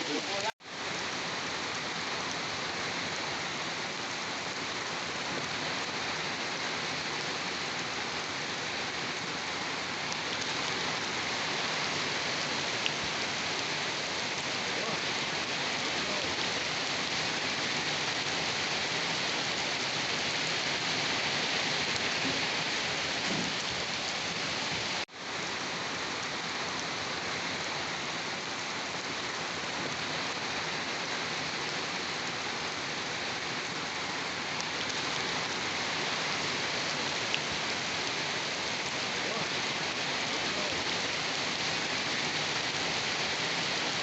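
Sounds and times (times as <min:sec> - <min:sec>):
heavy rain on a surface: 0:00.0 - 0:44.0.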